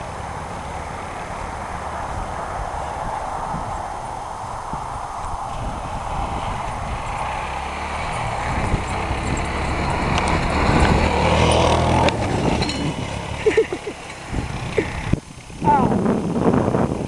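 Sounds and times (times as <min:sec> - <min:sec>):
atv engine running: 0:00.0 - 0:04.2, 0:05.5 - 0:17.0.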